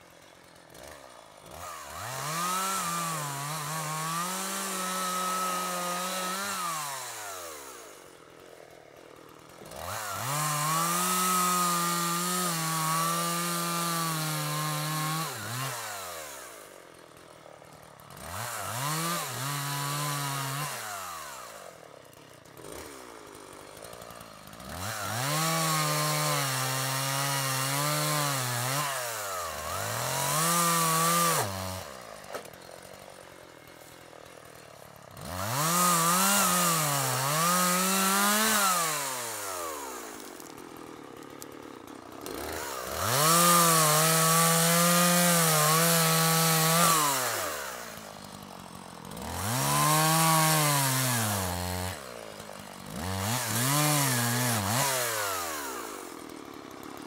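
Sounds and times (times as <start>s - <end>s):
chainsaw cutting and revving: 0.0s - 57.0s.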